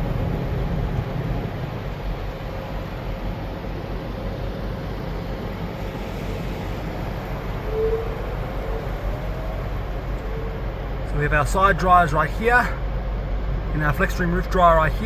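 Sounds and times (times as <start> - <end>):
car wash machinery rumble and hiss: 0.0 - 15.0
faint whine: 0.0 - 15.0.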